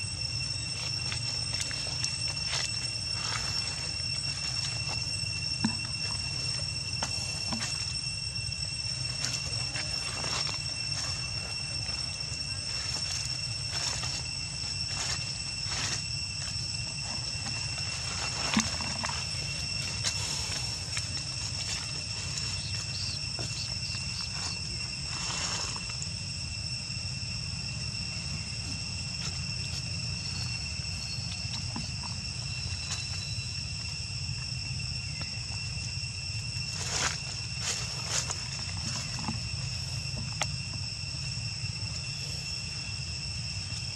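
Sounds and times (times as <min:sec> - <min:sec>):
shrill insect drone: 0:00.0 - 0:43.9.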